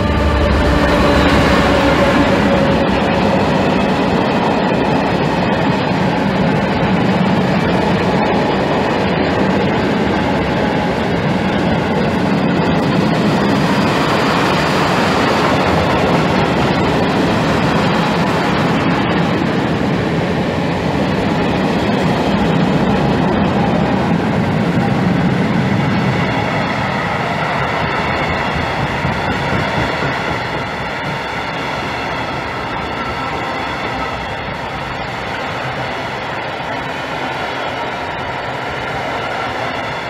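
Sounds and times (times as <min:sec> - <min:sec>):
train wheels running on rails: 0:00.0 - 0:40.0.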